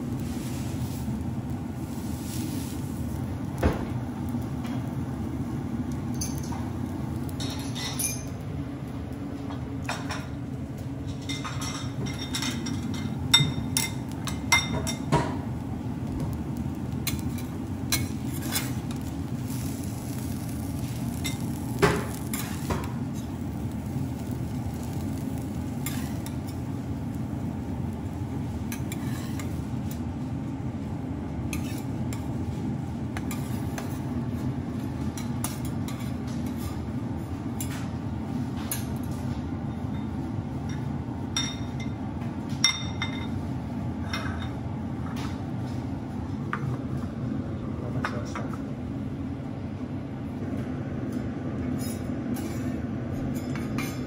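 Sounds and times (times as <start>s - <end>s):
bowls and utensils on griddle: 0.0s - 48.8s, 49.5s - 54.0s
steady low hum: 0.0s - 54.0s.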